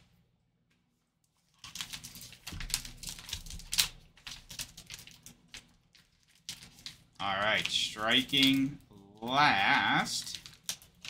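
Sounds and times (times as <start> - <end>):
foil pack tearing and crinkling: 1.5 - 11.0.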